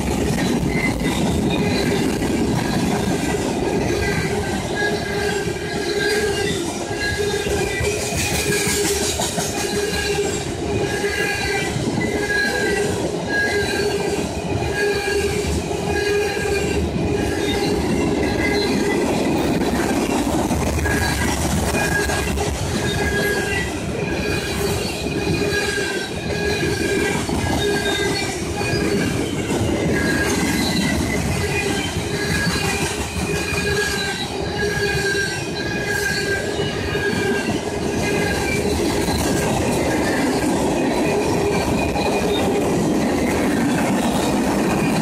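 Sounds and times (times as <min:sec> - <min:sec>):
train wheels rumbling on rail: 0:00.0 - 0:45.0
wheel squeals: 0:00.1 - 0:45.0.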